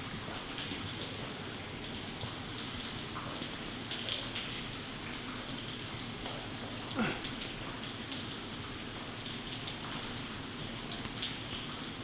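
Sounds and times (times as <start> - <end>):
water drips: 0.0 - 12.0.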